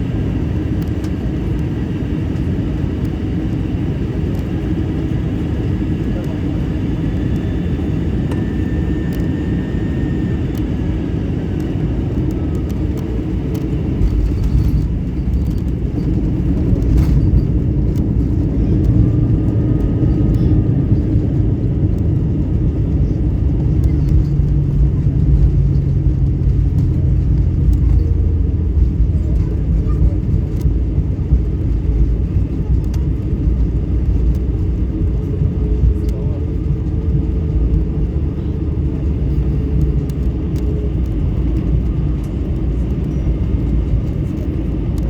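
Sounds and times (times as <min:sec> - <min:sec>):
deep rumble: 0:00.0 - 0:45.0
jet engine and airflow noise: 0:00.0 - 0:45.0.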